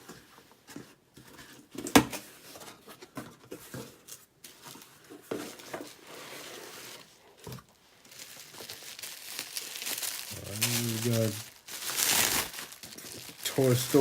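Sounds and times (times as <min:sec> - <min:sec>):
cardboard packaging rustling: 0:02.3 - 0:14.0.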